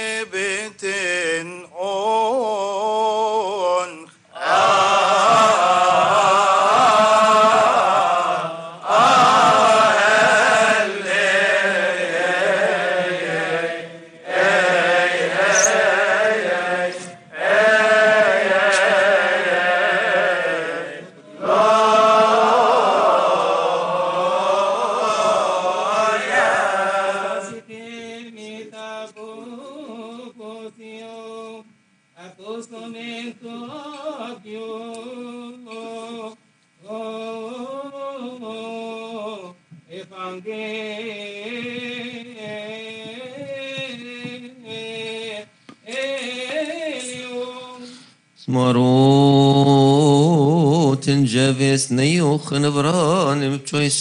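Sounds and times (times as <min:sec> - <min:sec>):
men chanting a hymn: 0:00.0 - 0:30.6, 0:36.9 - 0:54.0.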